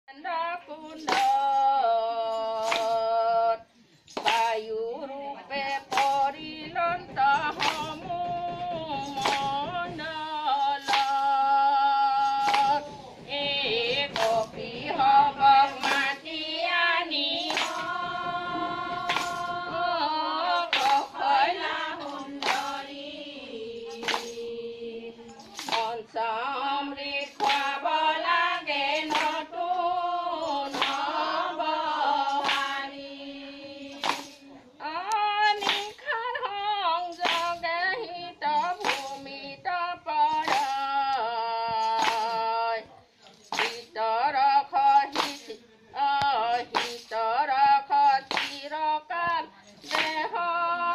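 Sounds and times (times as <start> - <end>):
women singing together: 0.1 - 50.9
hand claps: 1.0 - 3.3, 4.0 - 50.9.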